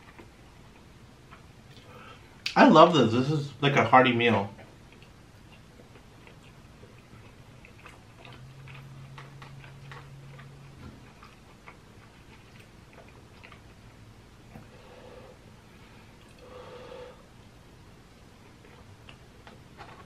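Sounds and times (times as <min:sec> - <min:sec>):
man chewing: 0:00.0 - 0:02.6, 0:04.6 - 0:20.0
low steady hum: 0:00.0 - 0:20.0.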